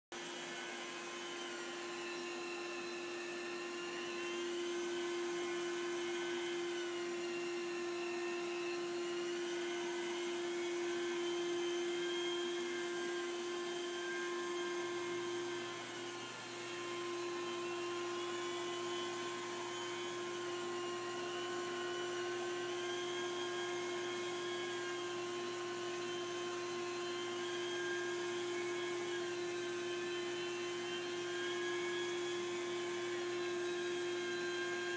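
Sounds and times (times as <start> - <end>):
carpet cleaning machine whine: 0.1 - 34.9.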